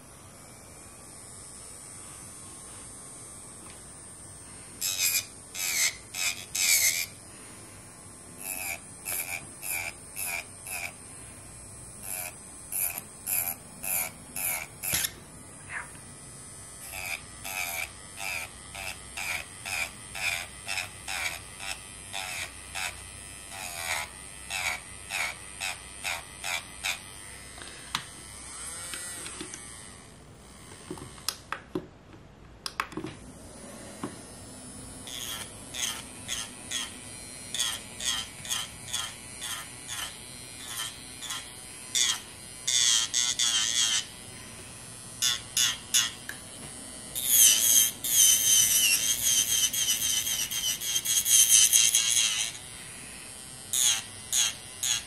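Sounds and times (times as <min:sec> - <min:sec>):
electric nail file buzzing: 0:00.0 - 0:31.8, 0:33.0 - 0:55.0.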